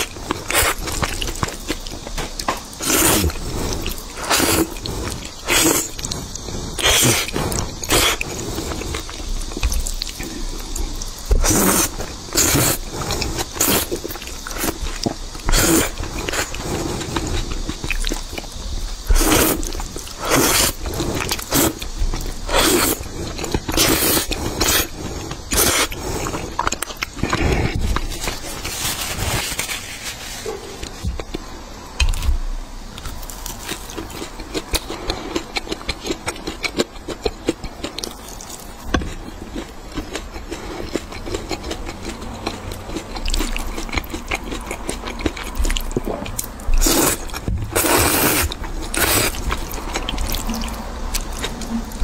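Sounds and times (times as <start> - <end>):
slurping and chewing noodles: 0.0 - 31.5, 33.0 - 52.0.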